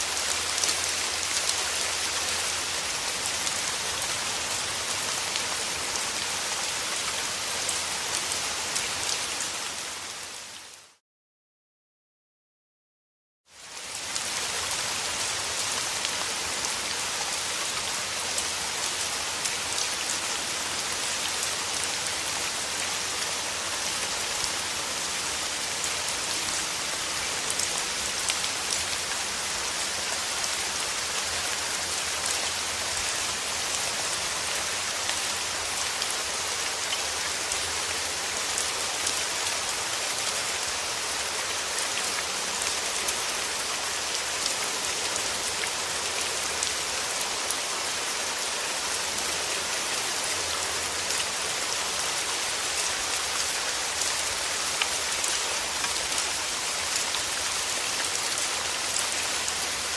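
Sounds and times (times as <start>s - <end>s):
steady rain falling: 0.0s - 11.0s, 13.5s - 59.9s.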